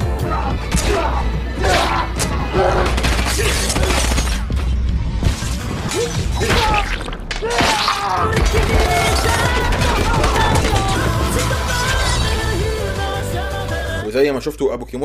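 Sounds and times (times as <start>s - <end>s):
action film music score: 0.0s - 15.0s.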